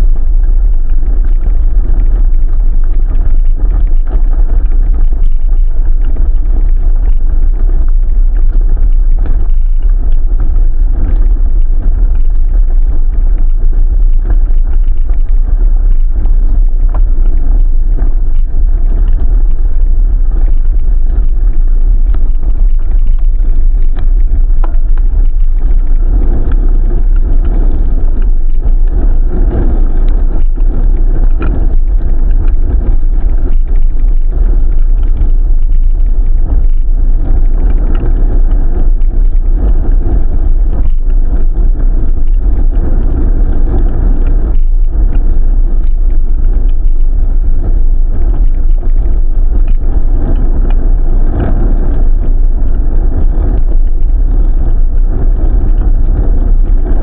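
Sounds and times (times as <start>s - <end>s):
small crackles: 0.0s - 57.0s
wind buffeting microphone: 0.0s - 57.0s.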